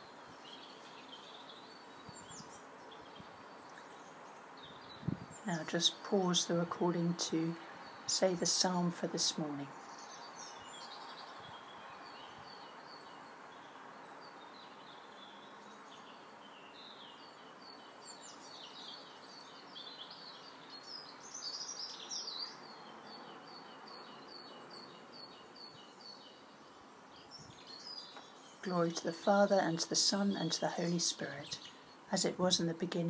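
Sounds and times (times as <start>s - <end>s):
faint steady background rush: 0.0s - 33.0s
small birds singing and chirping: 0.0s - 33.0s.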